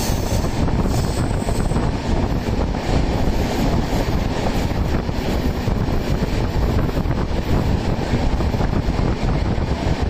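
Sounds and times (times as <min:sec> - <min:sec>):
train coaches rumbling on track: 0:00.0 - 0:10.0
wind rushing over microphone: 0:00.0 - 0:10.0.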